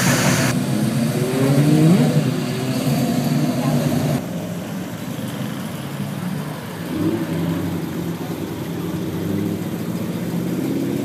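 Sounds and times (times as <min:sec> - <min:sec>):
car engines running at low speed: 0:00.0 - 0:11.0.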